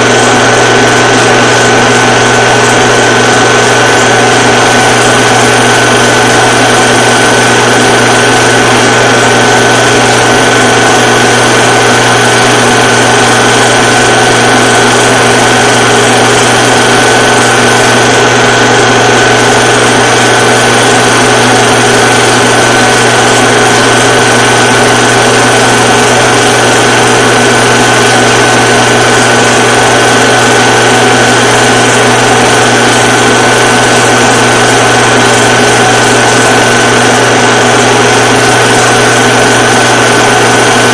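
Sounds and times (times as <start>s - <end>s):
film projector whirring: 0.0s - 40.9s
high whine: 0.0s - 40.9s.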